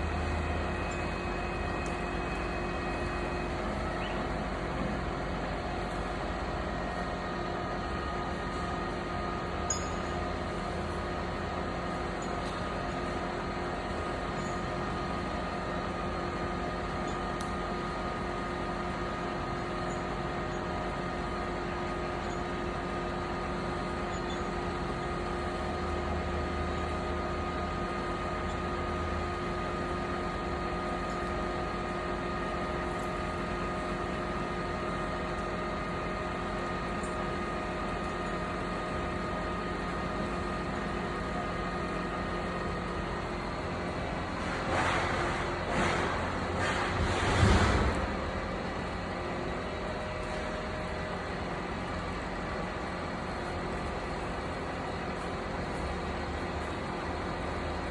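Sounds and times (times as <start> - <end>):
engine droning steadily: 0.0 - 57.9.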